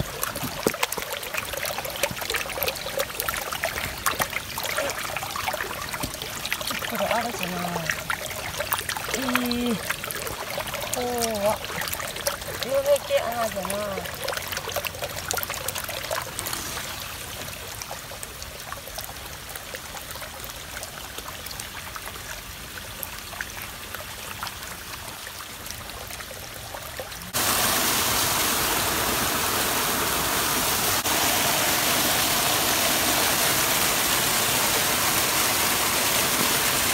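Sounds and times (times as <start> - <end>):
fast-flowing floodwater rushing: 0.0 - 18.8, 24.4 - 36.9
water trickling in a gutter: 0.0 - 36.9.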